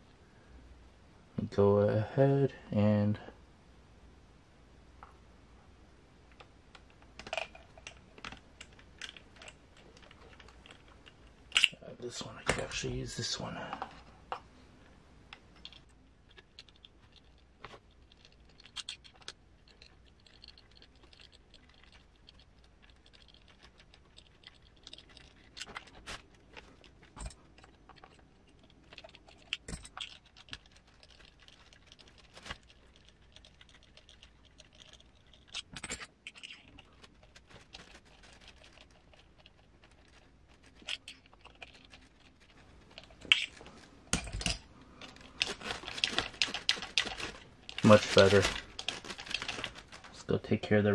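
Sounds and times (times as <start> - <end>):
small parts and hand tool clicking: 6.3 - 11.8, 15.3 - 50.8.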